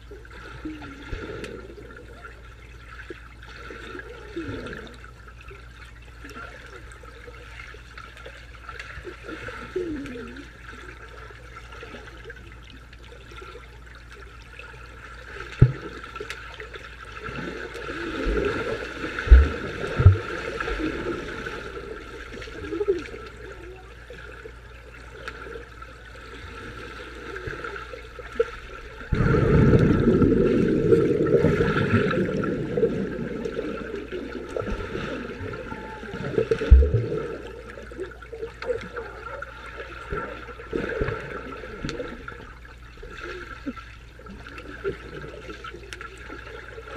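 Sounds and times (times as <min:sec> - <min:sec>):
underwater rushing water and bubbles: 0:00.0 - 0:46.9.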